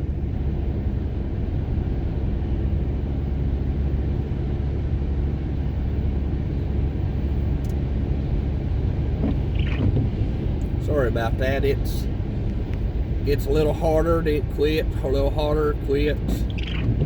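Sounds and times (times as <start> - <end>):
vehicle driving at highway speed: 0.0 - 17.0.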